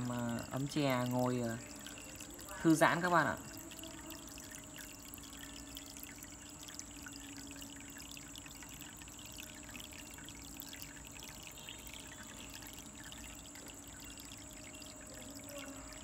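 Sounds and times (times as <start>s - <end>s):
faint steady hum: 0.0s - 16.0s
water trickling and splashing: 0.0s - 16.0s.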